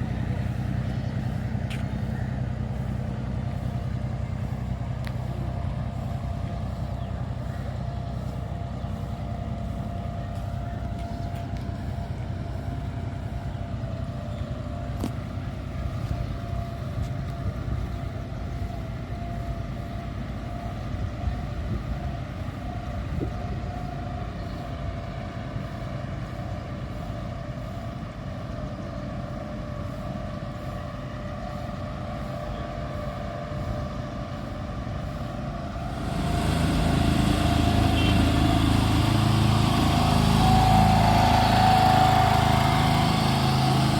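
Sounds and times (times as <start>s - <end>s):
boat engine droning: 0.0s - 43.9s
thin steady whine: 0.0s - 43.9s.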